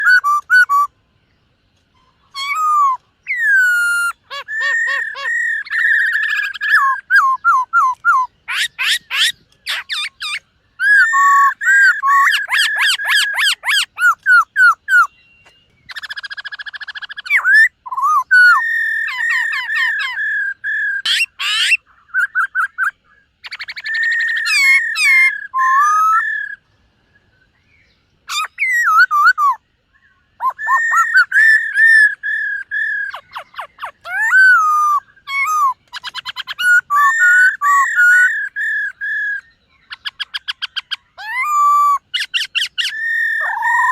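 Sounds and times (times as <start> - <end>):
bird singing whistled phrases: 0.0 - 0.9, 2.0 - 26.6, 27.2 - 43.9.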